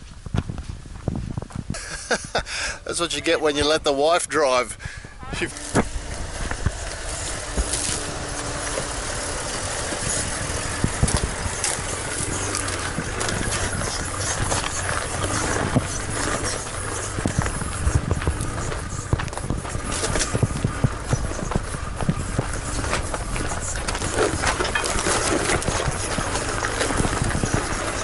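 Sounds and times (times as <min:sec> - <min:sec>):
vehicle engine running low: 0:00.0 - 0:28.0
stones crunching under tyres: 0:05.4 - 0:28.0.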